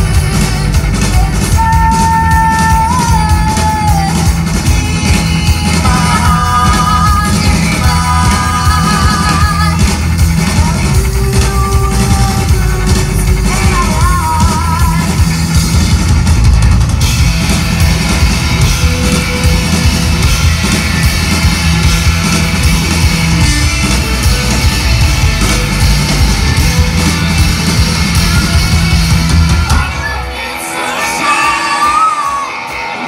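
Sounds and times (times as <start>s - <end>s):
live rock band: 0.0s - 33.0s.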